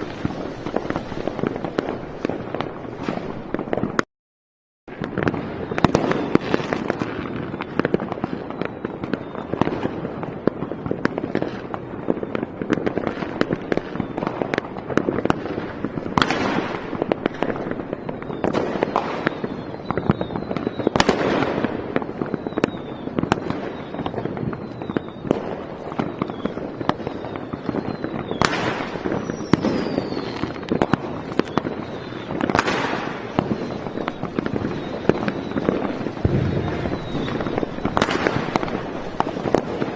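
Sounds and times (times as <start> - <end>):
fireworks whistles: 0.0 - 4.0, 4.9 - 39.9
fireworks bangs: 0.0 - 4.1, 4.9 - 39.9
fireworks crackling: 0.0 - 4.1, 4.9 - 39.9.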